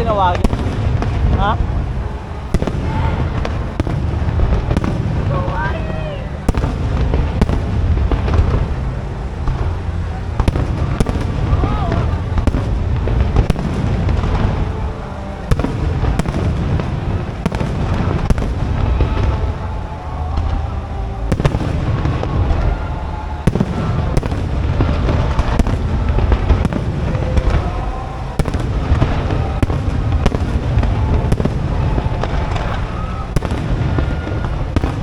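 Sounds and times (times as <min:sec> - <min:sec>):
fireworks bangs and pops: 0:00.0 - 0:19.6, 0:20.4 - 0:22.8, 0:23.4 - 0:35.0
fireworks rumble: 0:00.0 - 0:35.0.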